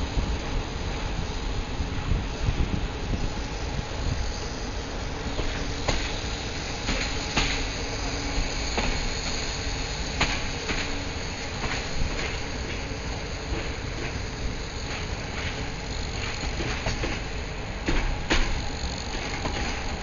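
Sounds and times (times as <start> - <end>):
train rumble and hiss: 0.0 - 20.0.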